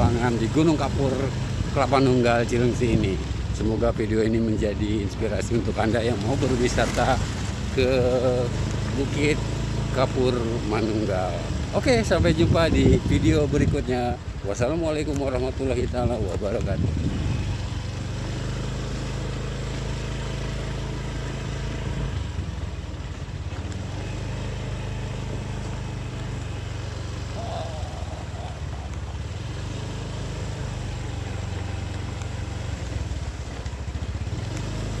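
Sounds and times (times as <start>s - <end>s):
road noise: 0.0s - 35.0s
small motorcycle engine running: 0.0s - 35.0s
wind: 0.0s - 35.0s.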